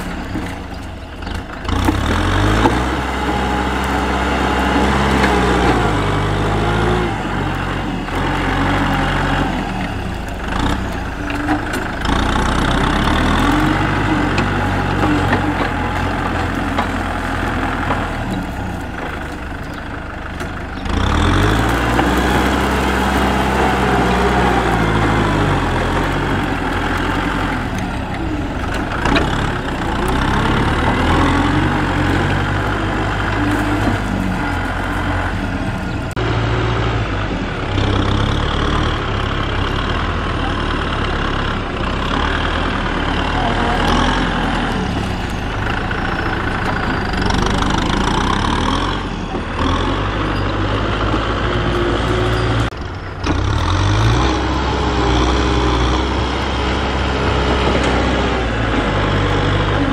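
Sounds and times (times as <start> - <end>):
rotary tiller working soil: 0.0 - 36.2, 37.5 - 59.9
tractor diesel engine under load: 0.0 - 59.9.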